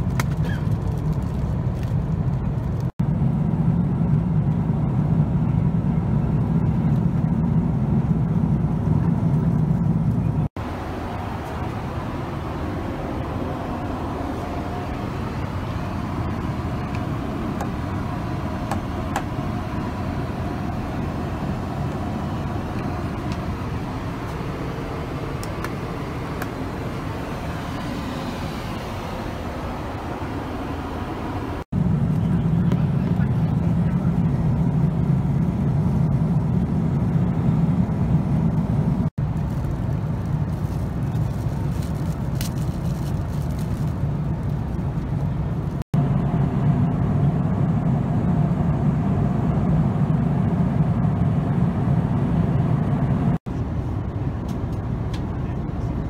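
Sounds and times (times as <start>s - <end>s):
airliner cabin drone: 0.0s - 56.0s
thin aircraft hum: 0.0s - 56.0s.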